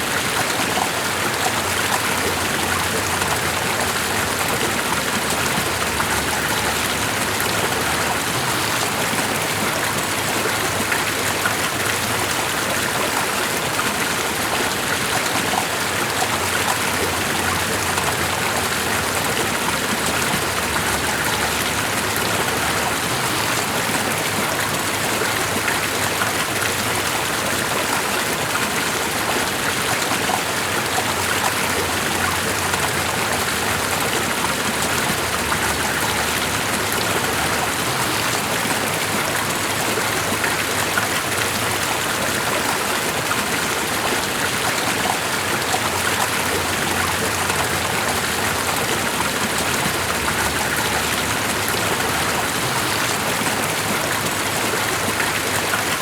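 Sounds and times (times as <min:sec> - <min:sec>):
rushing water splashing: 0:00.0 - 0:56.0.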